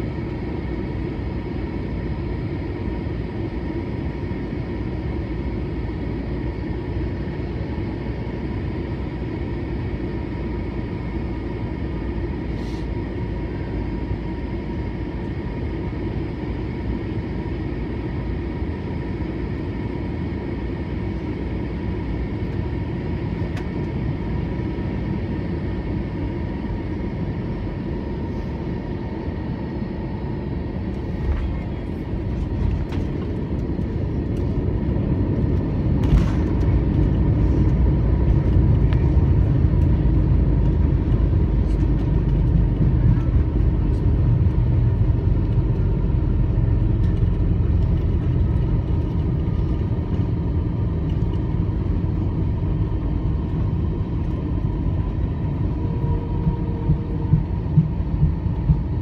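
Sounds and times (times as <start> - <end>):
aircraft cabin rumble: 0.0 - 59.0
thin engine whine: 0.0 - 59.0.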